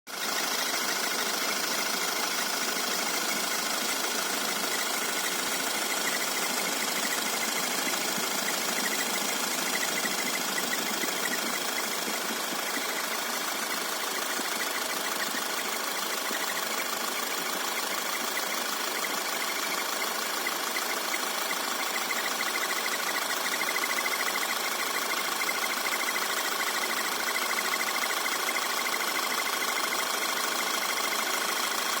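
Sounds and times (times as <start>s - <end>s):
car engine running: 0.1s - 32.0s
fast fluttering high whine: 0.2s - 28.2s.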